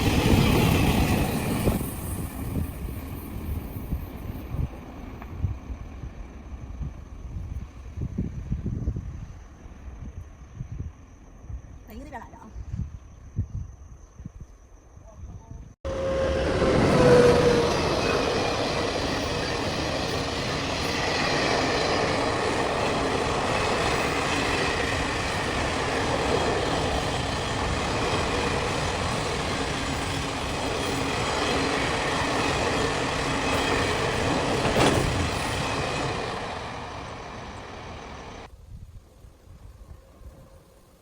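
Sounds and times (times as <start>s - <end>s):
train rumbling along rails: 0.0s - 13.0s, 15.5s - 41.0s.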